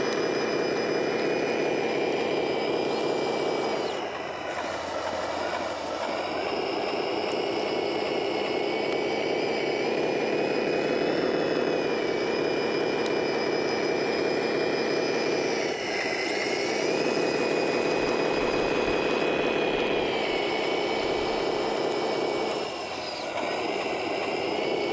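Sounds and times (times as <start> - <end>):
electric motors whining: 0.0 - 24.9.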